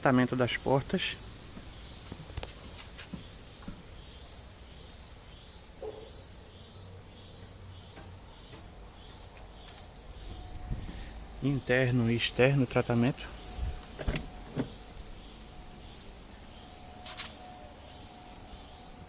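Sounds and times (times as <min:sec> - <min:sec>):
pulsing high-pitched hiss: 0:00.0 - 0:19.0.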